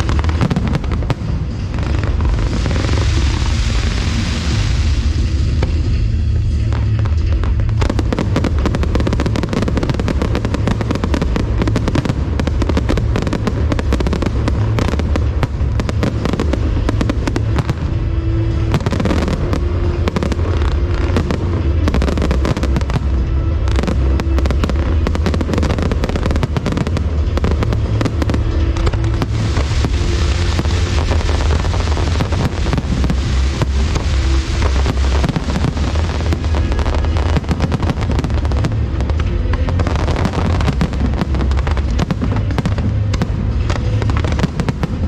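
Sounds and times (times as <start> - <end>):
fireworks crackling and banging: 0.0 - 45.0
steady low rumble: 0.0 - 45.0.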